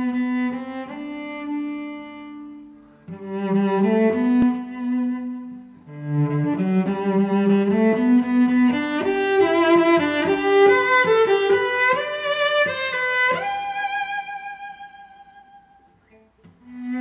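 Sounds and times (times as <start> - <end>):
classical string music with violin: 0.0 - 17.0.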